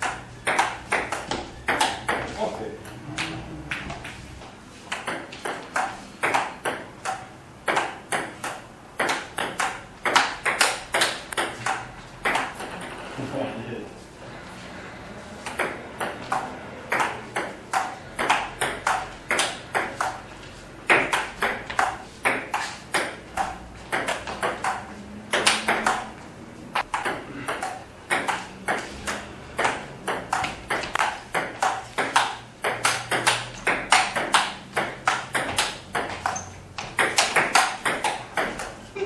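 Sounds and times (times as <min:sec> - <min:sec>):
table tennis ball clicking: 0:00.0 - 0:04.2, 0:04.9 - 0:13.0, 0:15.4 - 0:20.2, 0:20.9 - 0:38.8.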